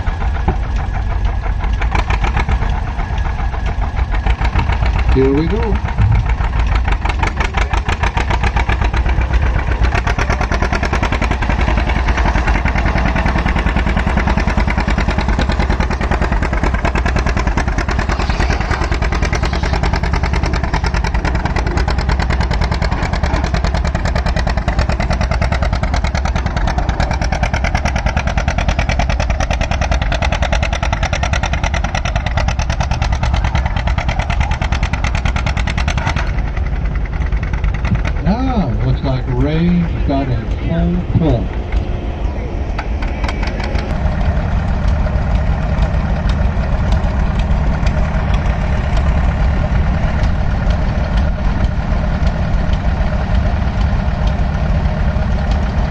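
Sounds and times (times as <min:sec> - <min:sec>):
tractor engine running hard: 0:00.0 - 0:55.9.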